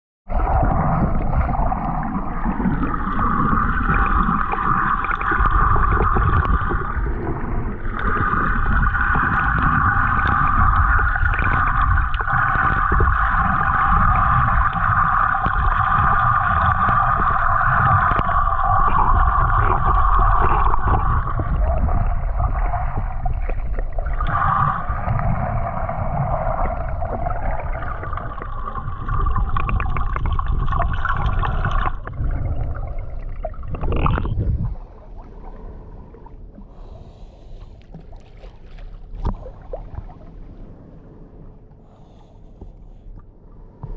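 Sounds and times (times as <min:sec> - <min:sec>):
muffled rumble of water: 0:00.3 - 0:43.9.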